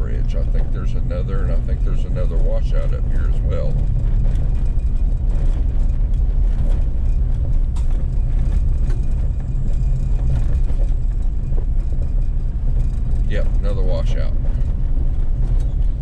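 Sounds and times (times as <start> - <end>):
engine and tyres rumbling: 0.0 - 16.0
knocks and rattles from bumps: 0.1 - 16.0.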